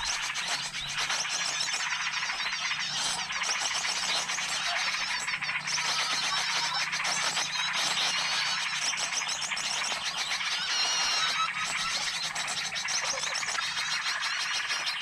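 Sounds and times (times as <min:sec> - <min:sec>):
drawn-out whistled bird call: 0:00.0 - 0:15.0
songbirds chirping and twittering: 0:00.0 - 0:15.0.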